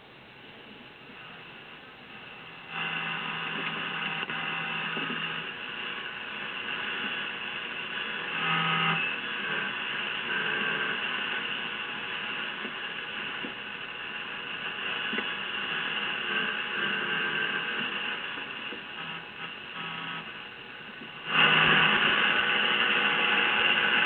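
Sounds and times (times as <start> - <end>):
faint radio tone: 0.0 - 24.0
radio static hiss: 0.0 - 24.0.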